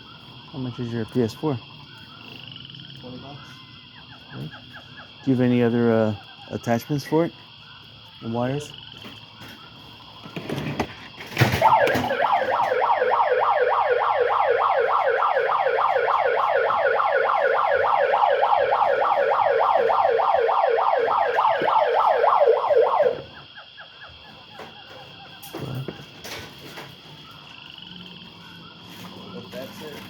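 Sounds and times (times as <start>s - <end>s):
electronic siren yelp: 0.0s - 10.2s, 11.4s - 23.9s, 26.7s - 30.0s.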